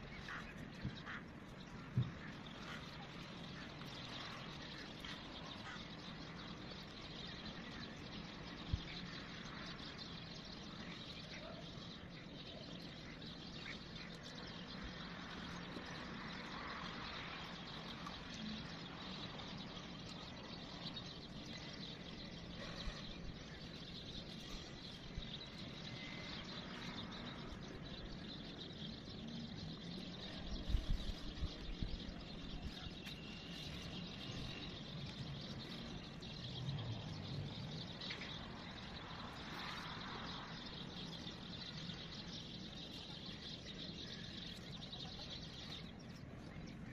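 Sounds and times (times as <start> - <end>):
faint bird chirps: 0.0 - 46.9
outdoor background noise: 0.0 - 46.9.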